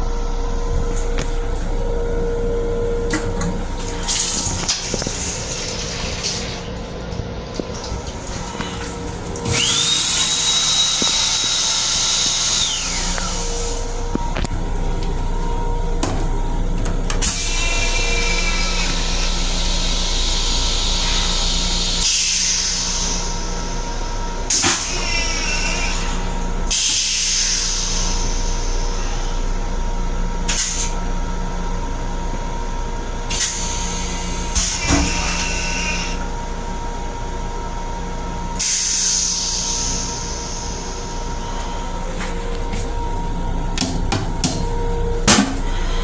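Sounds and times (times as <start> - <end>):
train hum and hiss: 0.0 - 46.0.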